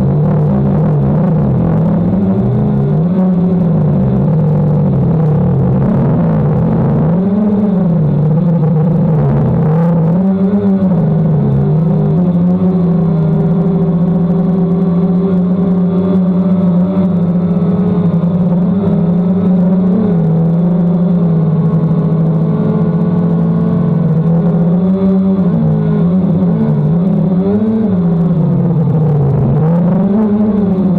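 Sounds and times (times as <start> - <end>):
drone propellers humming: 0.0 - 30.9.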